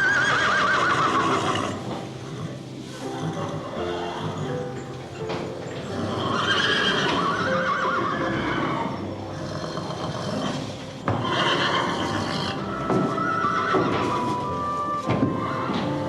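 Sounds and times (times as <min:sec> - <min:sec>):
animal calls: 0:00.0 - 0:05.0, 0:05.8 - 0:16.0.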